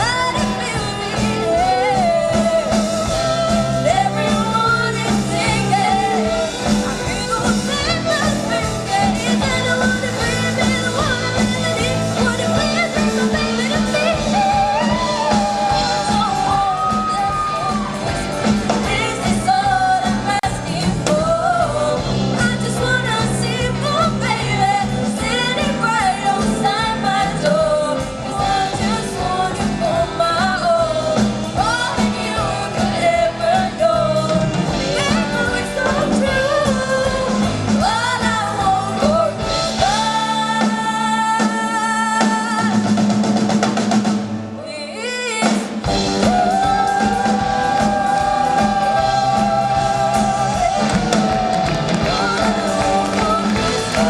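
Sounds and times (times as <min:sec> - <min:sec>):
lead vocalist singing: 0:00.0 - 0:43.2, 0:44.6 - 0:54.0
live rock band playing: 0:00.0 - 0:54.0.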